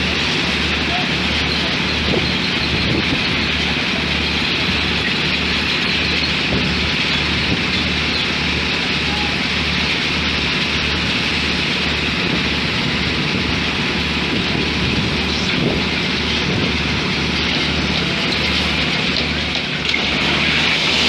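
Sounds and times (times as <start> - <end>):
industrial machinery running: 0.0 - 21.0.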